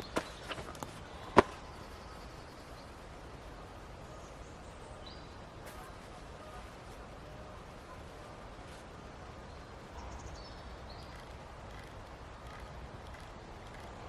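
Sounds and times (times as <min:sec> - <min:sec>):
faint bird chirp: 0:00.0 - 0:14.0
faint outdoor background: 0:00.0 - 0:14.0.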